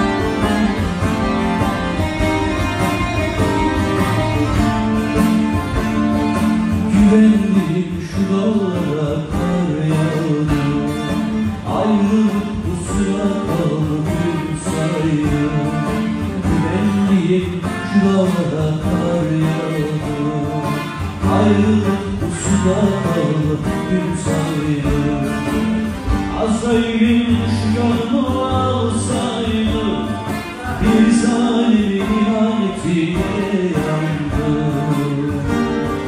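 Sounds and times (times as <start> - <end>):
folk music on plucked strings: 0.0 - 36.0.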